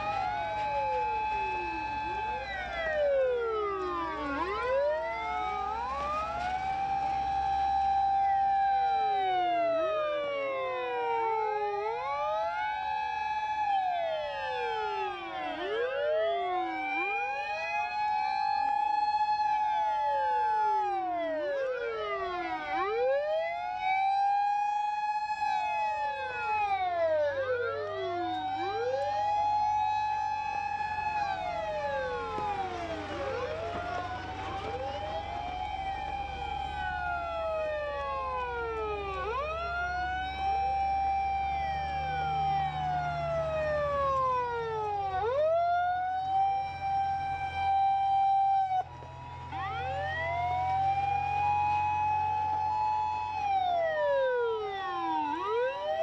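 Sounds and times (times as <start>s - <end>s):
heavy truck engines rumbling: 0.0s - 56.0s
wailing sirens: 0.0s - 56.0s.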